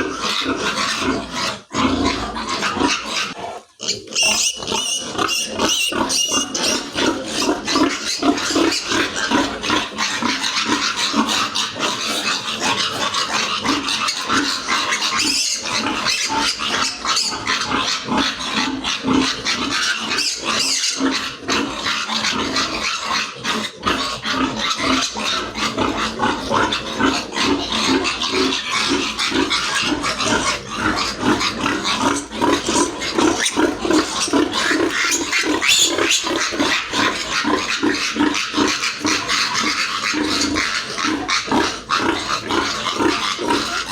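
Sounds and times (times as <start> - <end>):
piglets squealing: 0.0 - 43.9.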